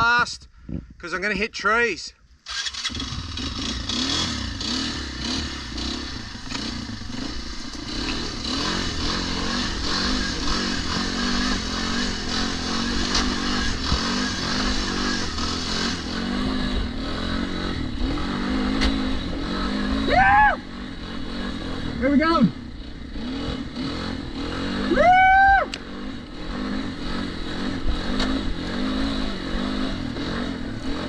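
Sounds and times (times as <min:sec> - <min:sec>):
dirt bike engine revving: 0:02.4 - 0:31.0.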